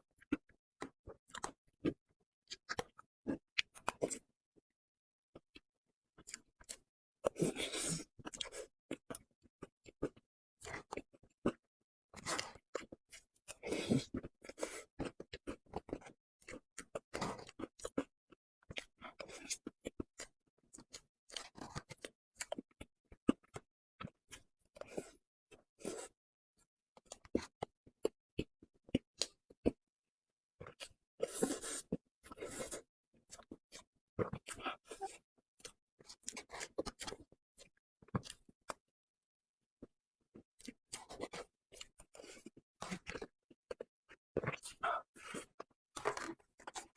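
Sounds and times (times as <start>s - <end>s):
close chewing and mouth clicks: 0.2s - 4.3s, 6.2s - 26.2s, 27.0s - 29.8s, 30.6s - 38.9s, 39.8s - 46.9s.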